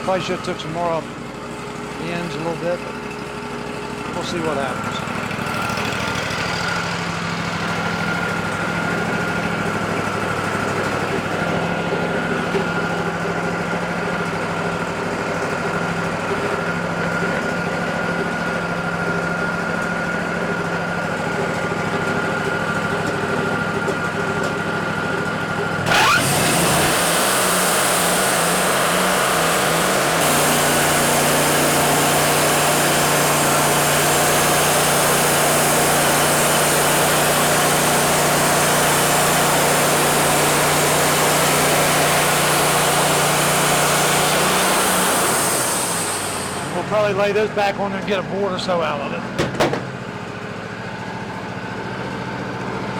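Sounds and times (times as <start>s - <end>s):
sawmill engine running and revving: 0.0s - 52.9s.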